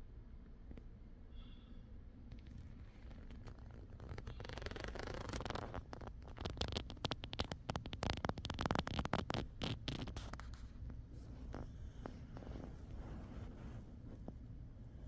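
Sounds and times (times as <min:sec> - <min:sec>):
scratchy clicks and rustling: 0:02.3 - 0:14.5.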